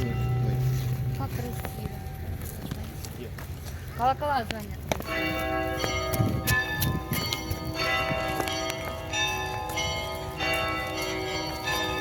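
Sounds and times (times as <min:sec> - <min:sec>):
church bells ringing: 0:00.0 - 0:02.6, 0:05.0 - 0:12.0.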